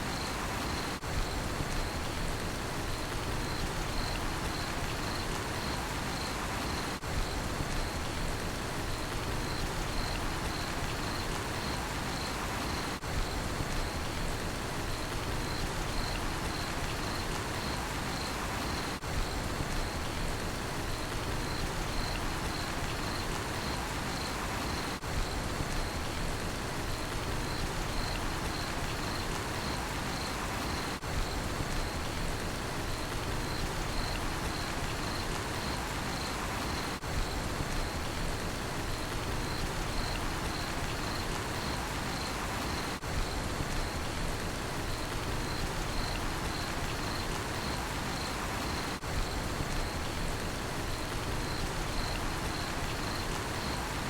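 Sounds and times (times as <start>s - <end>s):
crickets chirping: 0.0s - 2.2s, 2.8s - 8.2s, 8.9s - 54.0s
steady rainfall: 0.0s - 54.0s.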